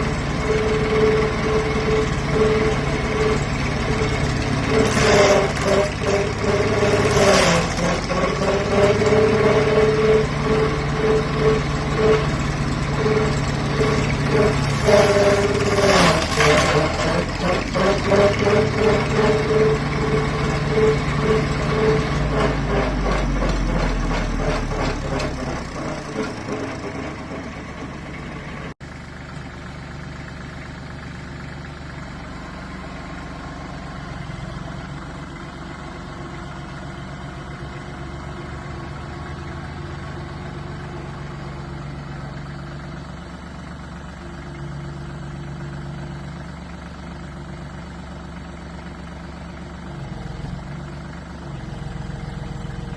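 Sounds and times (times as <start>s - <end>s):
tractor diesel engine clattering: 0.0s - 52.9s.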